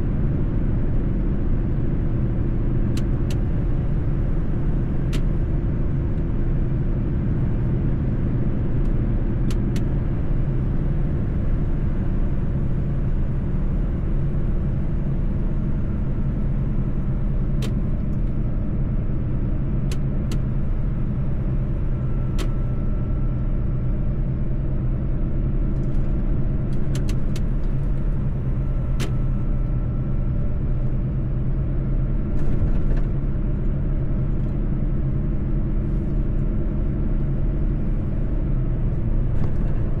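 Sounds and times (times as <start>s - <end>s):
road rumble: 0.0s - 40.0s
truck engine drone: 0.0s - 40.0s.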